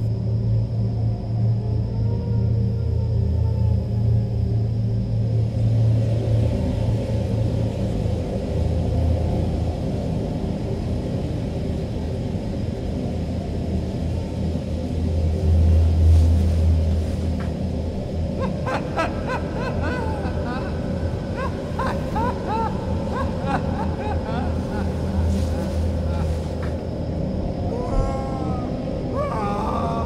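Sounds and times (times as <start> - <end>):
eerie low droning film score: 0.0 - 30.0.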